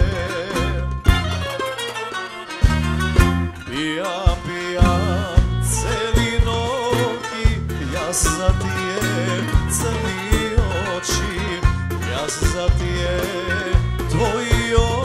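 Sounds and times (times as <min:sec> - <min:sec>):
bass guitar: 0:00.0 - 0:15.0
drum kit: 0:00.0 - 0:15.0
guitar: 0:00.0 - 0:15.0
hand drum: 0:00.0 - 0:15.0
plucked kanun: 0:00.0 - 0:15.0.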